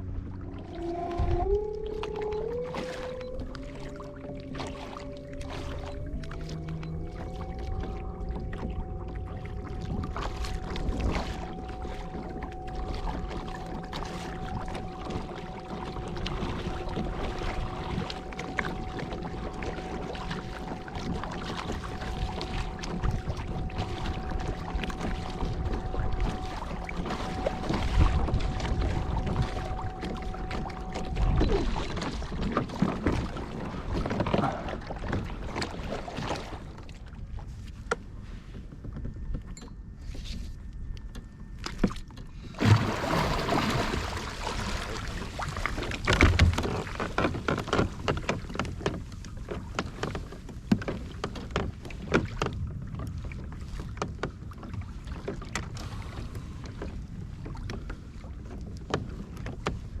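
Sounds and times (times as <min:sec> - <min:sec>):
water against plastic hull: 0:00.0 - 1:00.0
knocks and thumps on hull: 0:04.5 - 0:40.5, 0:41.1 - 1:00.0.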